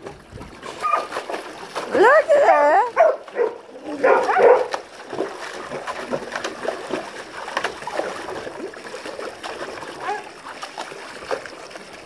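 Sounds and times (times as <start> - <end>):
hose water splashing into metal tub: 0.0 - 12.0.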